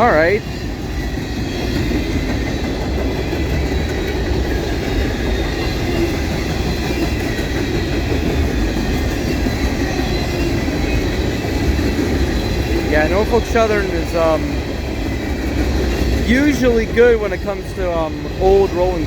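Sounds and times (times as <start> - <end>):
steel wheels running on rails: 0.0 - 19.0.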